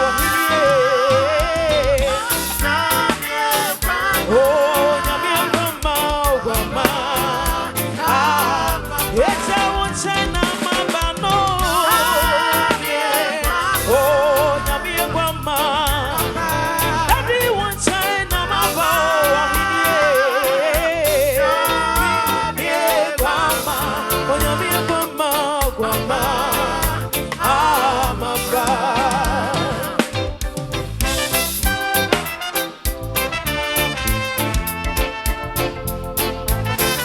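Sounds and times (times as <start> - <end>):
upbeat gospel music: 0.0 - 37.0.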